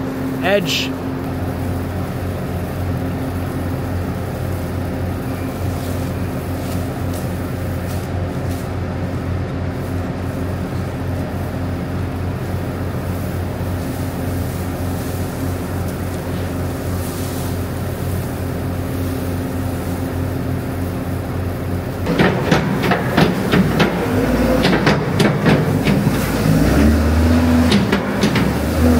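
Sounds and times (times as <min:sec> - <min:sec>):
machine droning: 0:00.0 - 0:28.9.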